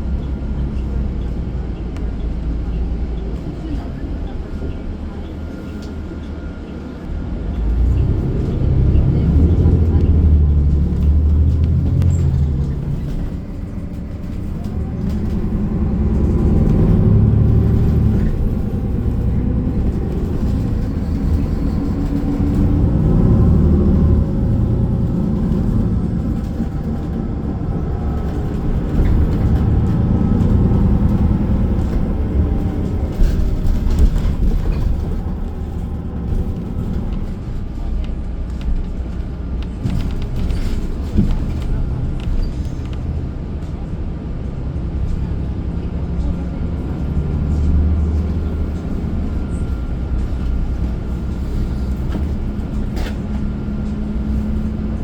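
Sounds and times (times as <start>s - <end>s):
bus engine: 0.0s - 55.0s
road noise: 0.0s - 55.0s.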